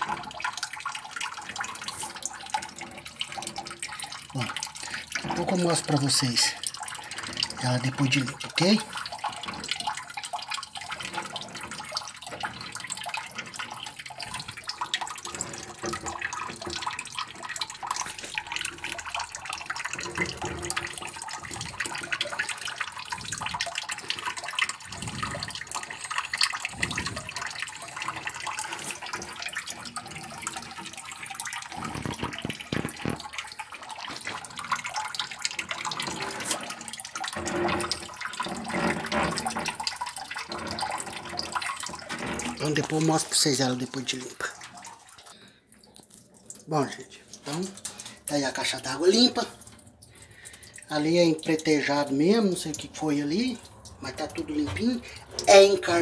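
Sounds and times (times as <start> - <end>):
water sloshing in a tank: 0.0 - 56.0
water swishes when stirred: 0.0 - 56.0.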